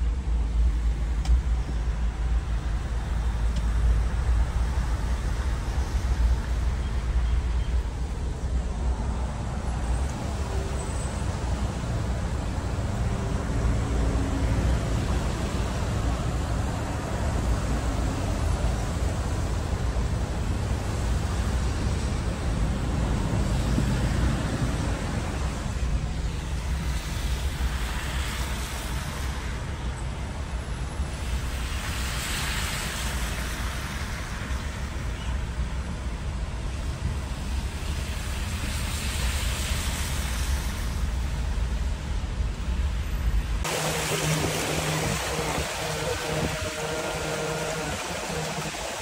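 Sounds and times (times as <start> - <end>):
heavy rain: 0.0 - 49.0
traffic on wet roads: 0.0 - 49.0.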